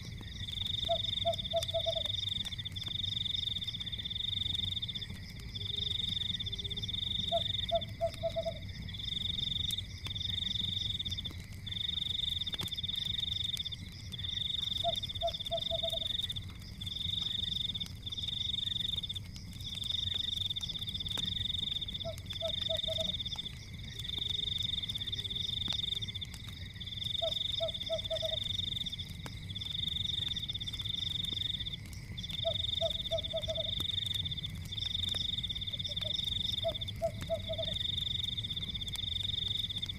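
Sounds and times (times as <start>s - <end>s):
faint fire crackles: 0.0s - 39.9s.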